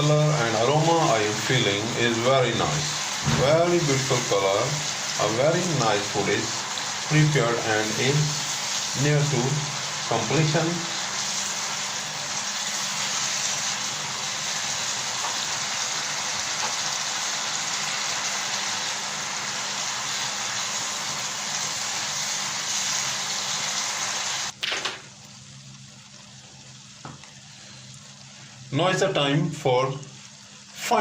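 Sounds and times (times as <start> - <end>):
curry sizzling in a pan: 0.0 - 31.0.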